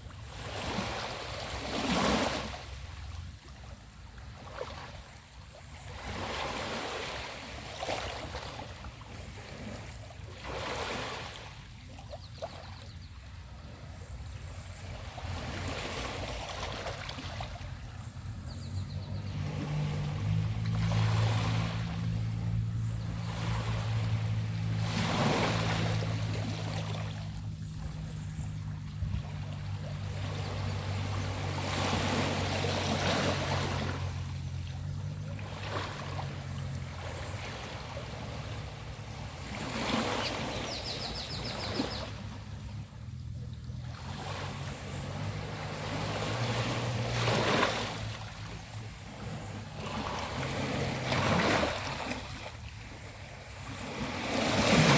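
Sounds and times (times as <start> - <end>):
low engine hum: 0.0 - 54.9
small waves washing onto beach: 0.0 - 54.9.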